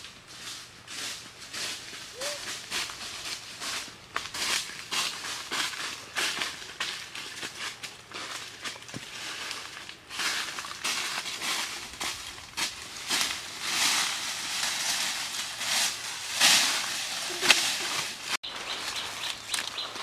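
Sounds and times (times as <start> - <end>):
footsteps crunching dry leaves: 0.0 - 20.0.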